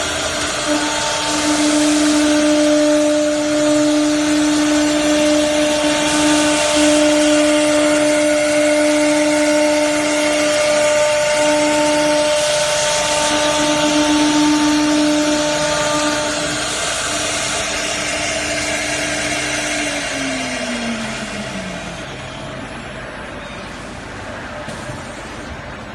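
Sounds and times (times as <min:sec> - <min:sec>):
router spindle whining: 0:00.0 - 0:24.2.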